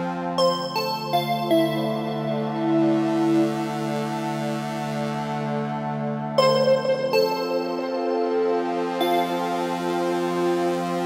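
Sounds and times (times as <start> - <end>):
soft synthesizer chords: 0.3 - 11.0.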